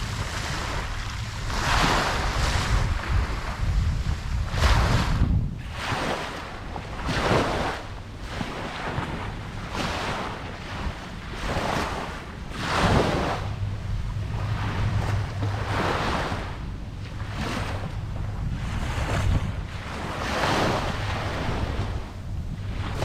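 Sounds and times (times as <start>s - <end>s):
small waves breaking: 0.0s - 23.0s
wind rumble on microphone: 0.0s - 23.0s.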